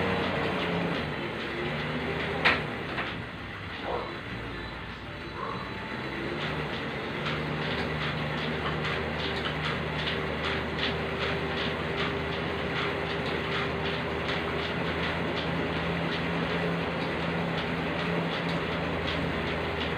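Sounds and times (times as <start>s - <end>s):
cross-trainer whirring hum: 0.0s - 19.9s
rhythmic clicking: 0.0s - 19.9s.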